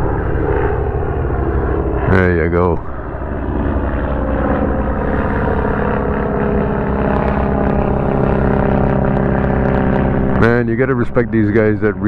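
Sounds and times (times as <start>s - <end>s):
warplane piston engine running: 0.0s - 12.0s.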